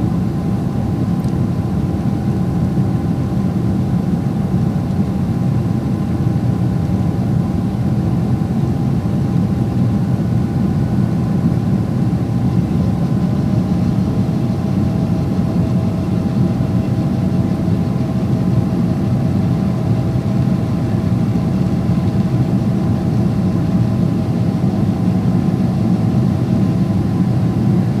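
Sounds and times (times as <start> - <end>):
airplane cabin drone: 0.0 - 28.0.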